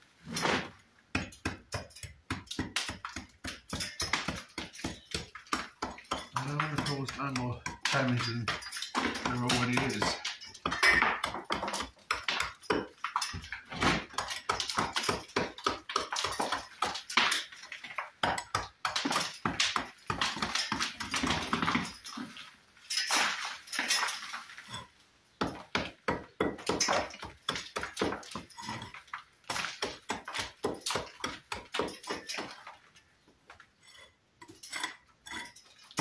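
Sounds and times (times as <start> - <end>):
hammer chipping brick: 1.1 - 22.1, 25.4 - 32.8, 34.4 - 36.0.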